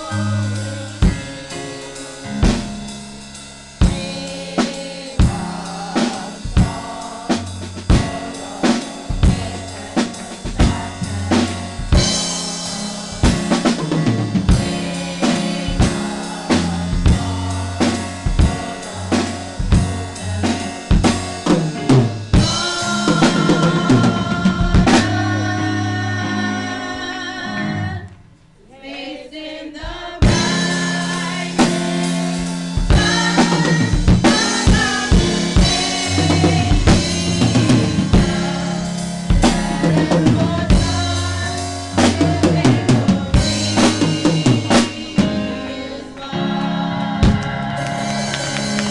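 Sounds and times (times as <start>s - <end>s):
music with drums and bass: 0.0s - 27.1s, 30.0s - 48.9s.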